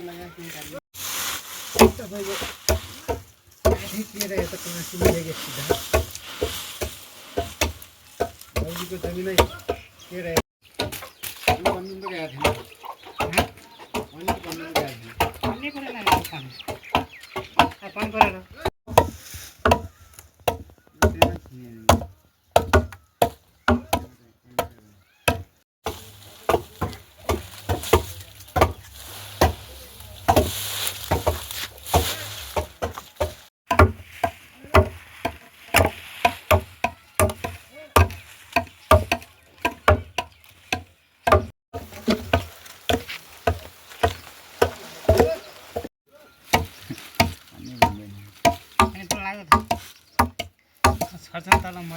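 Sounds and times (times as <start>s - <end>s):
chopping on wood: 2.6s - 6.2s, 6.8s - 28.8s, 30.3s - 45.9s, 46.5s - 51.8s.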